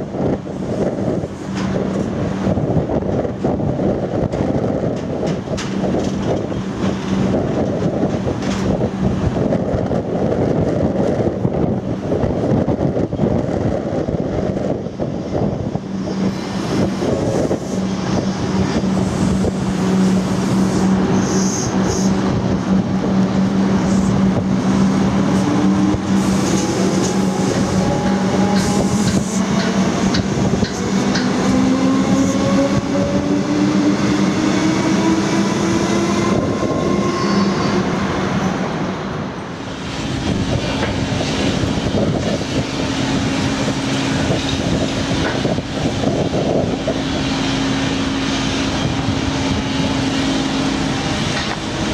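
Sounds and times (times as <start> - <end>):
electric train hum: 0.0 - 51.9.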